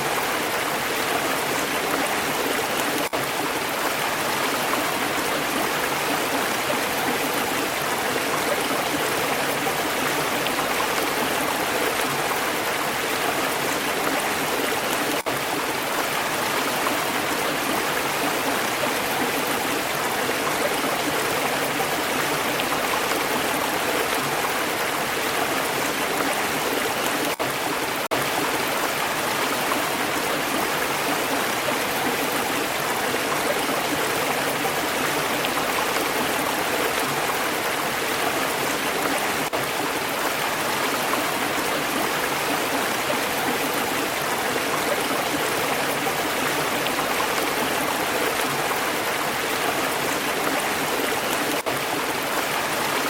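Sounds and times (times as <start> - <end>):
stream water babbling: 0.0 - 53.0.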